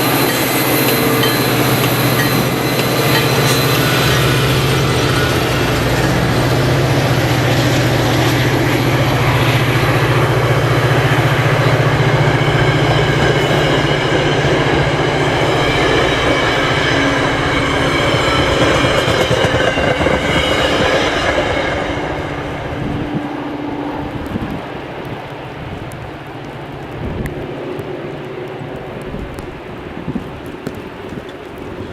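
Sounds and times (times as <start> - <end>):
low locomotive drone: 0.0 - 31.9
train wheels rumbling on rails: 0.0 - 31.9.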